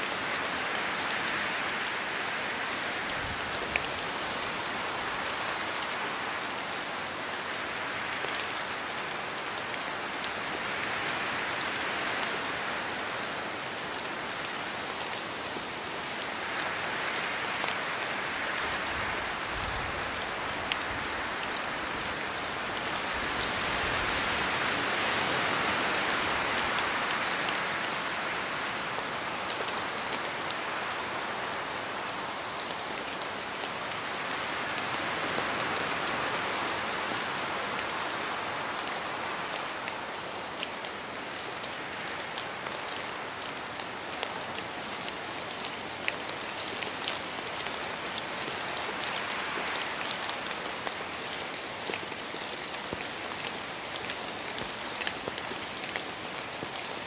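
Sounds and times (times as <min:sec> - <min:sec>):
steady rain in forest: 0:00.0 - 0:57.0.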